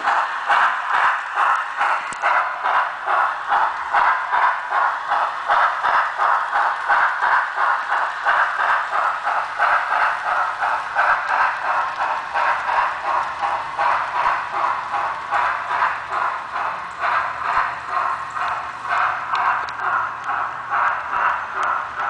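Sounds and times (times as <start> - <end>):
model train steam chuff: 0.0 - 22.0.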